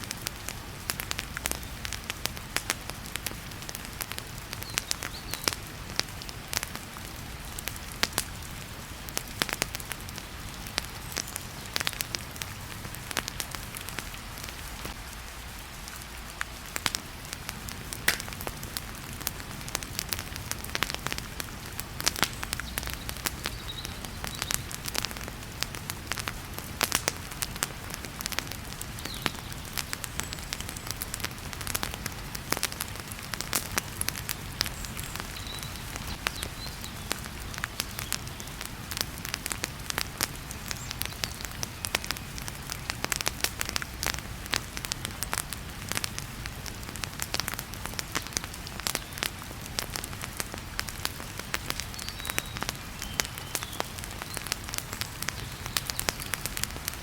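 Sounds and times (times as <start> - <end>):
heavy rain hissing: 0.0 - 57.0
wood fire crackling: 0.0 - 57.0.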